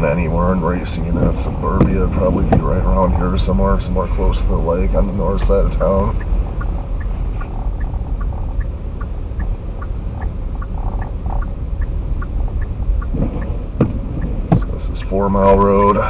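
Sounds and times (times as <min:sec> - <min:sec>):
car road and engine rumble: 0:00.0 - 0:16.0
light ticking: 0:00.6 - 0:16.0.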